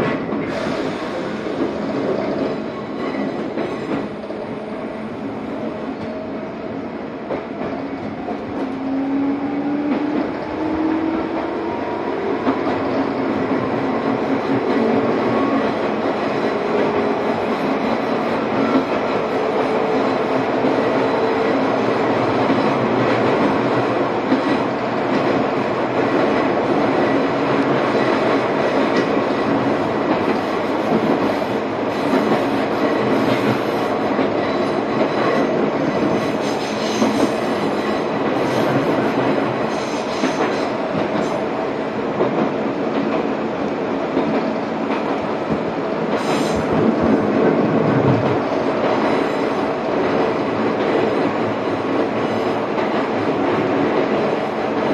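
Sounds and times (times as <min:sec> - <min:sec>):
train wheels on rails: 0:00.0 - 0:54.9.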